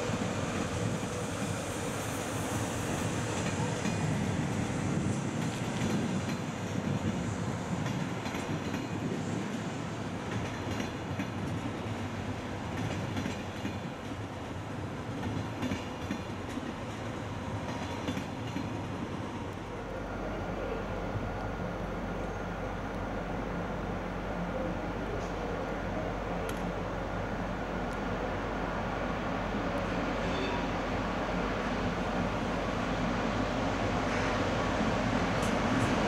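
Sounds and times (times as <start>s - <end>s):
train rolling over tracks: 0.0s - 36.0s.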